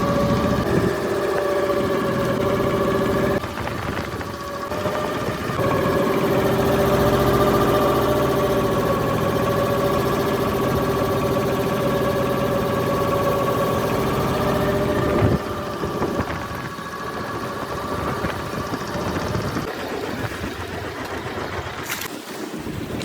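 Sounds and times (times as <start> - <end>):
boat engine running: 0.0 - 22.8
wind: 0.0 - 23.0.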